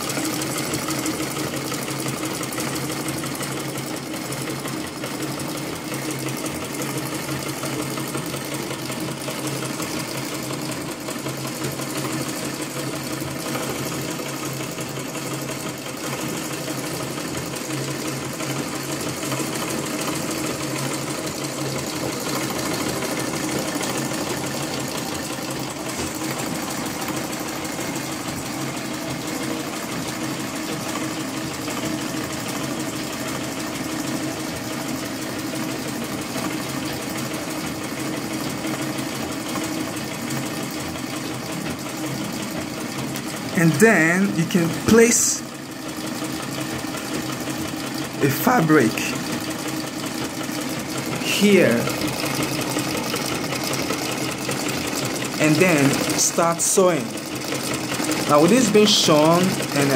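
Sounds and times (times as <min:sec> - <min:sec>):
treadle sewing machine clattering: 0:00.0 - 0:59.9.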